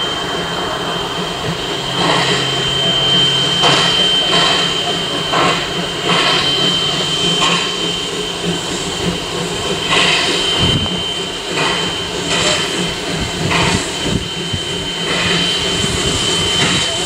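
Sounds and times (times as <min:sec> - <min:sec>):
steam locomotive chuffing: 0:00.0 - 0:17.0.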